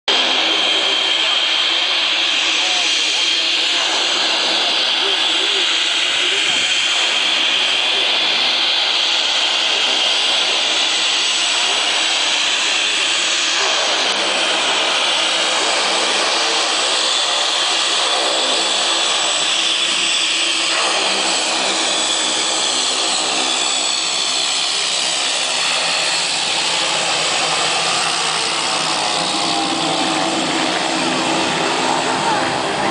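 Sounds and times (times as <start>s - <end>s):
turboprop engines whining: 0.1s - 32.9s.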